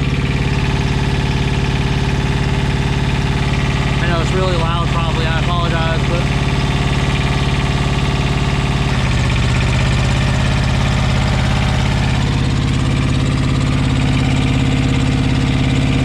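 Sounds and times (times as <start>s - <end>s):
auxiliary diesel engine running: 0.0s - 16.0s.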